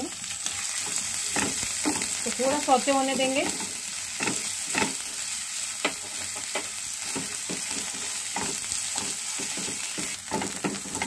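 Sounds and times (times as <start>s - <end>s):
food sizzling in oil: 0.0s - 11.0s
spatula scraping and tapping pan: 0.4s - 2.2s, 3.2s - 11.0s.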